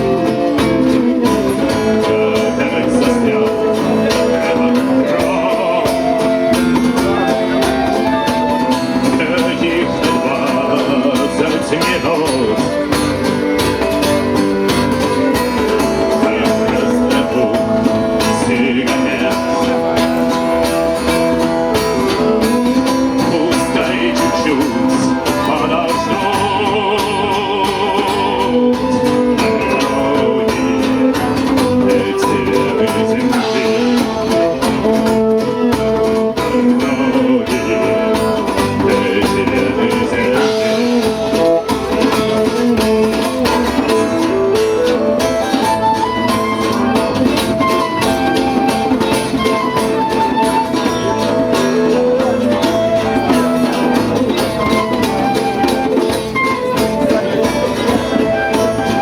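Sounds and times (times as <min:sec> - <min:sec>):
band playing a song: 0:00.0 - 0:59.0
guitar: 0:00.0 - 0:59.0.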